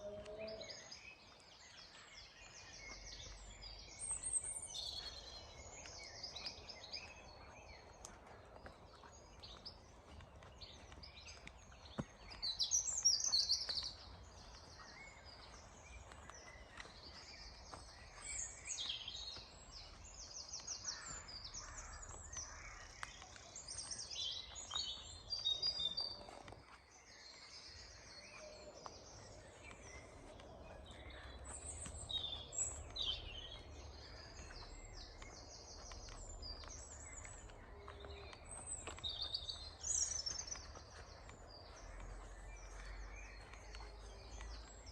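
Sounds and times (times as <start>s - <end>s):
songbirds singing and chirping: 0.0s - 44.9s.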